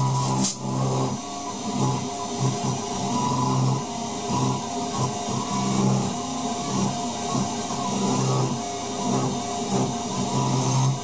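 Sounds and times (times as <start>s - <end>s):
milling machine cutting aluminium: 0.0s - 11.0s.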